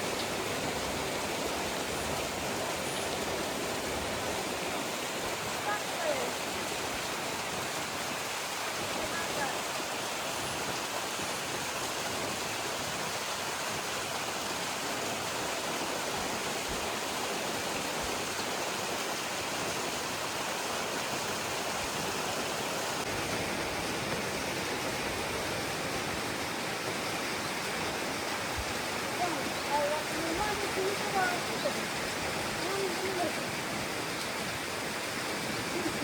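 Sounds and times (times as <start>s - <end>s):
waterfall roar: 0.0s - 36.0s.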